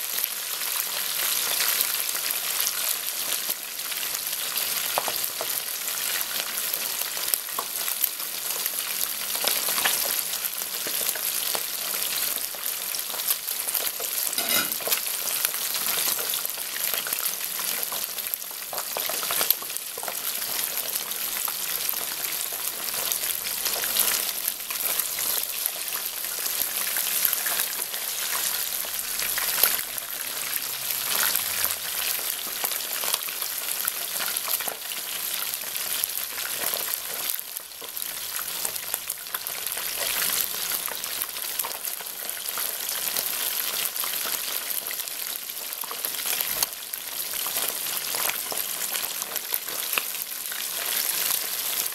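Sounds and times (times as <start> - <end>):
fish sizzling in hot oil: 0.0 - 51.9
oil popping and crackling: 8.6 - 51.9.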